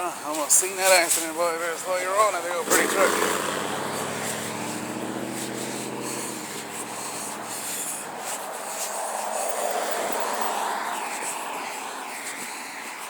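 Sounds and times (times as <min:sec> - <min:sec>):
scratchy rubbing on microphone: 0:00.0 - 0:11.5
steady rushing noise: 0:01.1 - 0:13.0
passing vehicle engine hum: 0:01.2 - 0:12.9.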